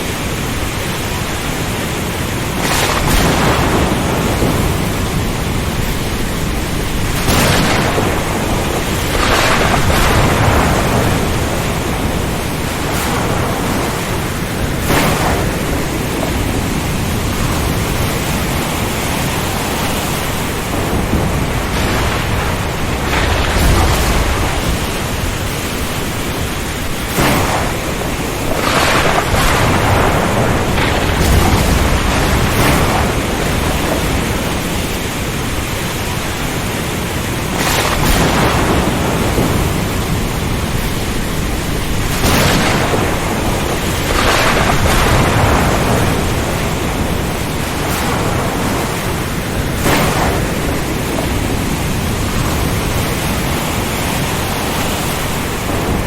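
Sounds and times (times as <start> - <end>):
dense steady rain: 0.0 - 56.0
low thunder rumbling: 0.0 - 56.0
strong wind: 0.0 - 56.0.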